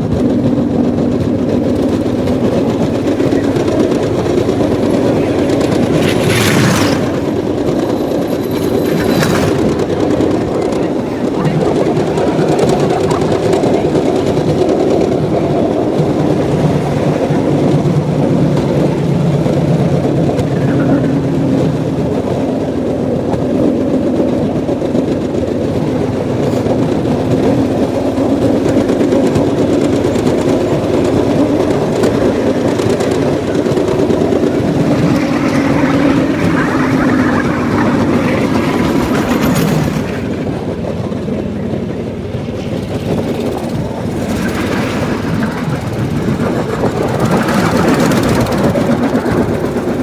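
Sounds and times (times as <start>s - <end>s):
small engine running: 0.0s - 50.0s
train riding on rails: 0.0s - 50.0s.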